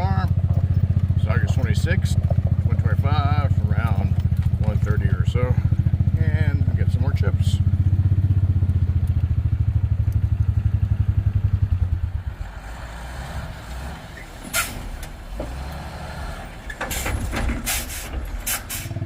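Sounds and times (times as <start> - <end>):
truck engine throbbing: 0.0 - 19.0.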